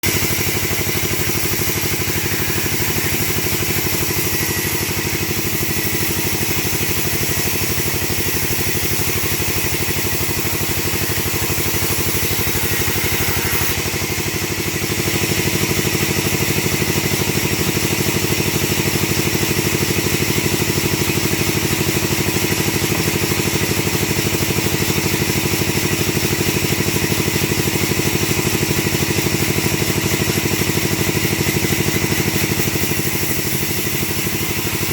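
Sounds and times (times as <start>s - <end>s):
wood-cutting machine engine running: 0.0s - 34.9s.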